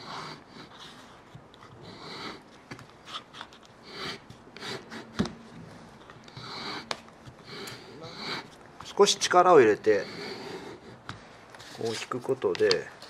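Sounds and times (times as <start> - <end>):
blade scratching wood: 0.0 - 5.4, 6.1 - 12.8
handling rubs: 0.0 - 13.0.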